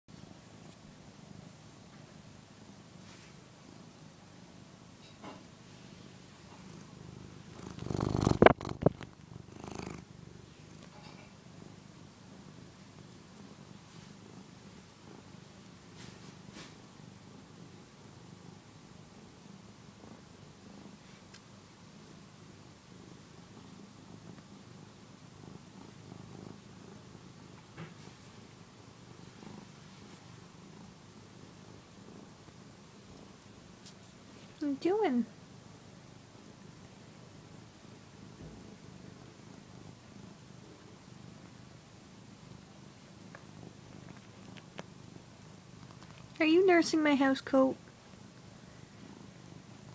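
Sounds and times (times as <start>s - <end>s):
cat purring: 0.1s - 49.9s.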